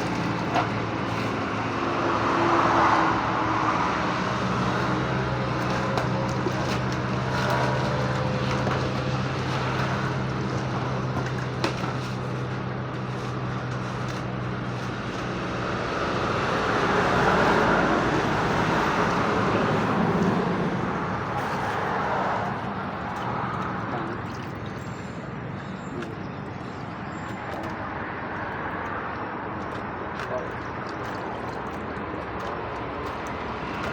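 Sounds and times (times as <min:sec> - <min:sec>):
broad vehicle noise: 0:00.0 - 0:33.9
vehicle engine hum: 0:00.0 - 0:33.9.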